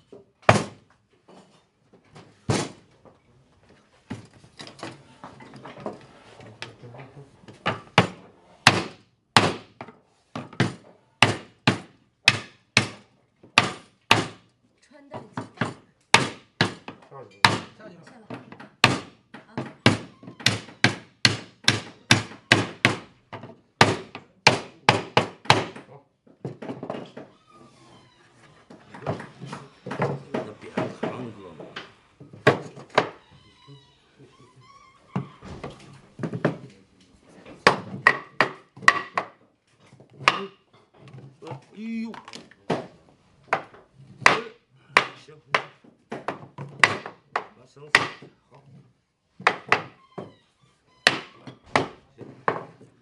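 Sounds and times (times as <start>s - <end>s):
wooden knocks and clatter: 0.0s - 14.4s, 15.1s - 33.5s, 35.1s - 36.8s, 37.5s - 44.4s, 45.0s - 50.4s, 51.0s - 53.0s.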